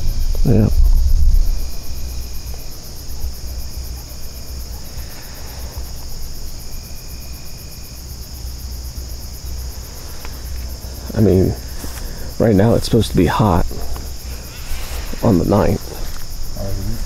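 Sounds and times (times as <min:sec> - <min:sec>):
faint insect tone: 0:00.0 - 0:17.0
fast pulsing insect chirp: 0:00.0 - 0:17.0
insects trilling: 0:00.0 - 0:17.0
low steady rumble: 0:00.0 - 0:17.0.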